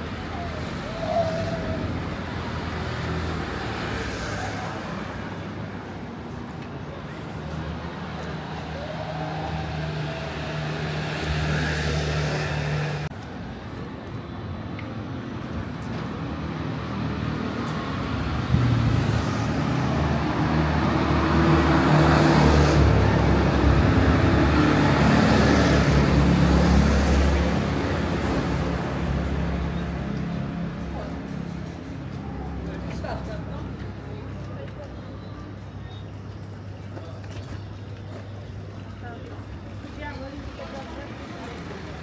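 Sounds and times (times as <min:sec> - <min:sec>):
street traffic engines: 0:00.0 - 0:42.0.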